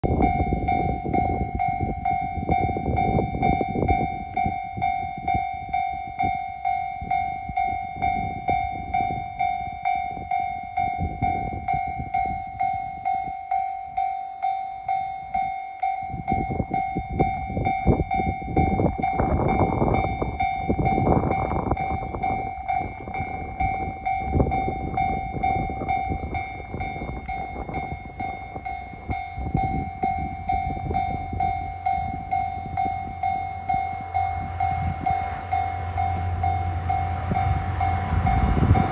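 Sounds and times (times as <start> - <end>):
freight train rumble: 0.0 - 38.9
level crossing warning bell: 0.0 - 38.9.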